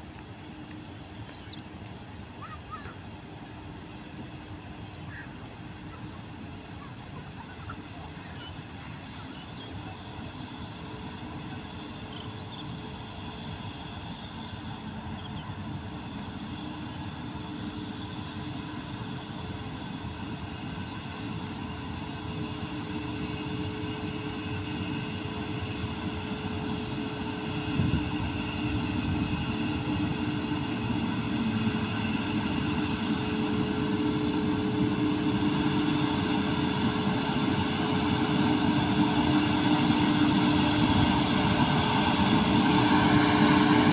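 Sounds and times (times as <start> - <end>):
electric locomotives humming: 0.0 - 43.9.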